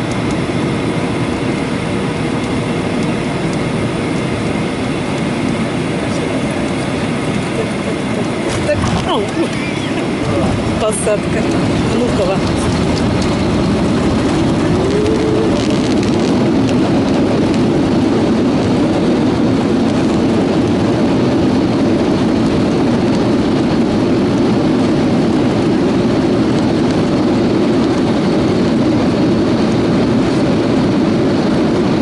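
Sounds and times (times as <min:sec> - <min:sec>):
airliner cabin engine roar: 0:00.0 - 0:32.0.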